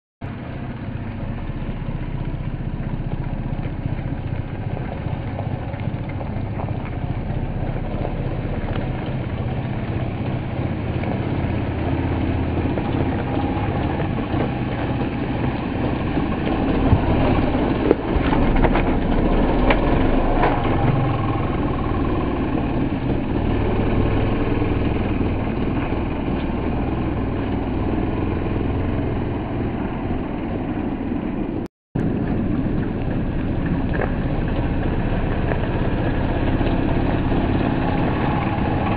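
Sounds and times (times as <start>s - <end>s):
dirt bike engine running: 0.2s - 38.9s.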